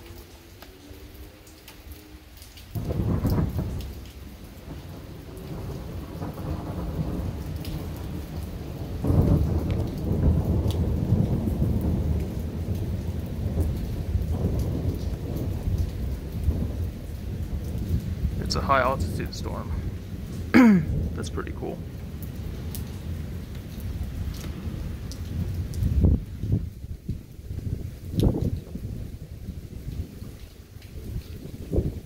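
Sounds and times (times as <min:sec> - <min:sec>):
rain falling and dripping: 0:00.0 - 0:32.0
thunder rumbling: 0:02.7 - 0:32.0.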